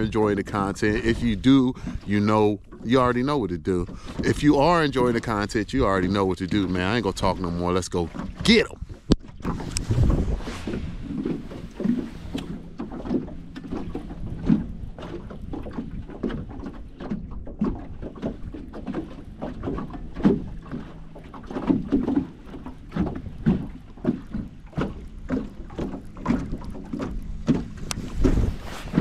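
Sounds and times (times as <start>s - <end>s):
water slapping against boat hull: 0.0s - 29.0s.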